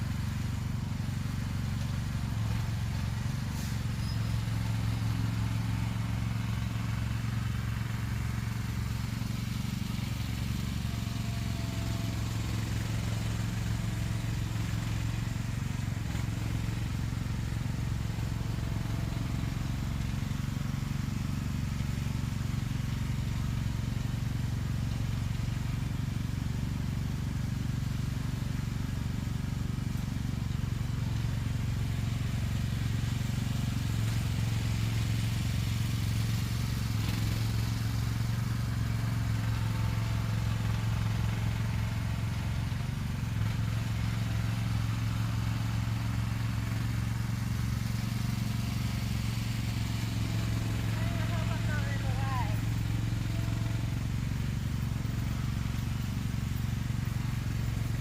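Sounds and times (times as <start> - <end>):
vehicle engine running at low revs: 0.0 - 58.0.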